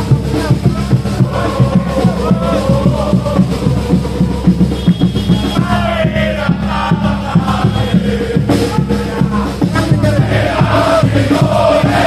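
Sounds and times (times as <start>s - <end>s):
crowd chanting and singing: 0.0s - 12.0s
rhythmic drumbeat: 0.0s - 12.0s.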